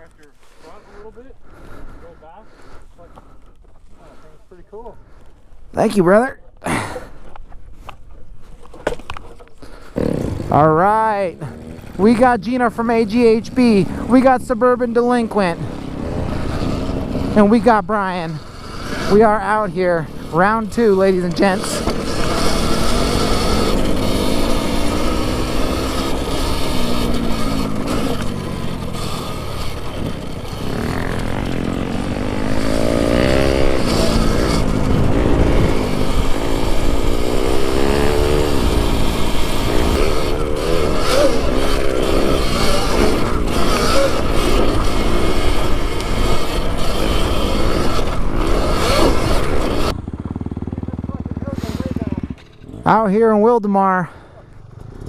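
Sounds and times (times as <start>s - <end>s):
wind and riding noise: 0.0s - 55.0s
dirt bike engine revving: 9.6s - 55.0s.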